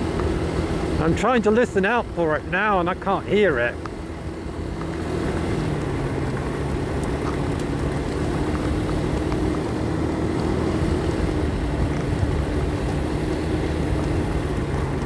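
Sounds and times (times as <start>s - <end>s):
motorcycle engine cruising: 0.0s - 15.0s
wind and road noise: 0.0s - 15.0s.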